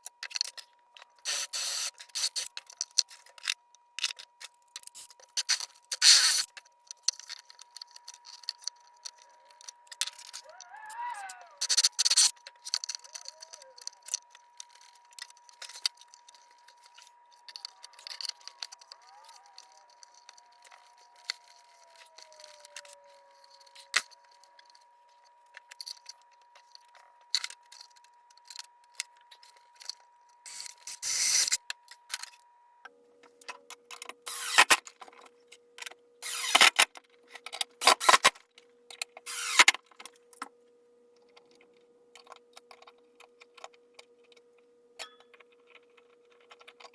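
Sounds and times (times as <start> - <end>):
small parts and tools clattering: 0.0 - 32.4, 41.2 - 46.9.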